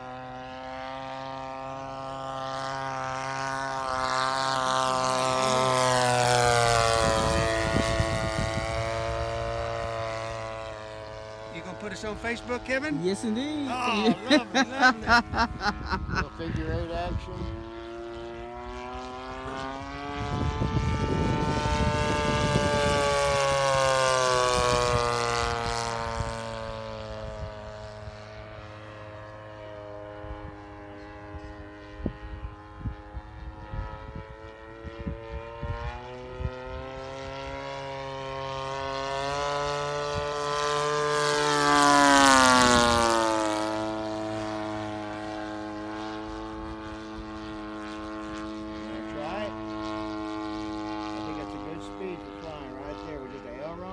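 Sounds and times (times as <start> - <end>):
model airplane flying past: 0.0 - 53.9.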